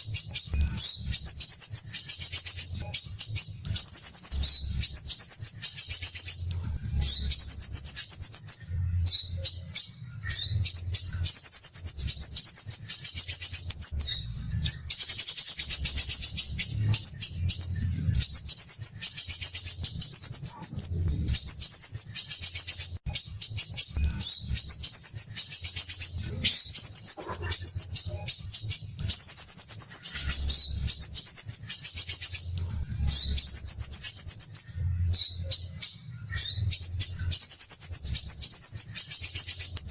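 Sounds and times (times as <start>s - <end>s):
bird singing rapid high trills: 0.0s - 39.9s.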